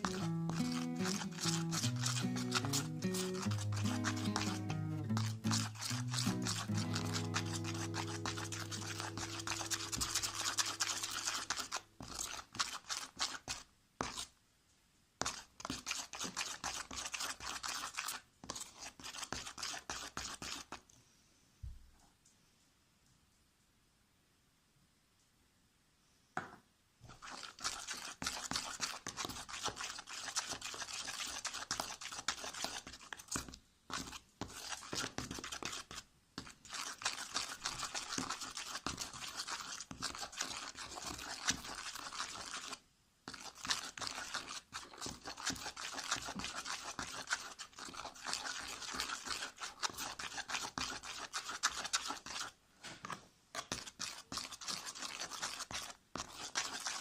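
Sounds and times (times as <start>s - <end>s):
utensil scraping bowl: 0.0s - 14.3s, 15.2s - 20.8s, 27.0s - 57.0s.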